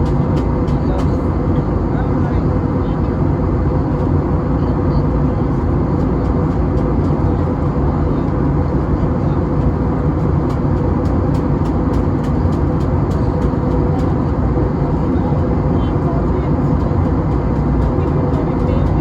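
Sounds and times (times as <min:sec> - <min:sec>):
airplane cabin engine roar: 0:00.0 - 0:19.0
constant hum: 0:00.0 - 0:19.0.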